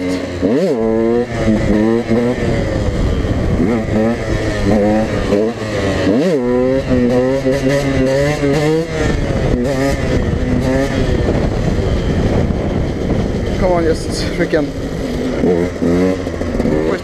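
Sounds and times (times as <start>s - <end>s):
dirt bike engine revving: 0.0s - 17.0s
wind buffeting microphone: 0.0s - 17.0s.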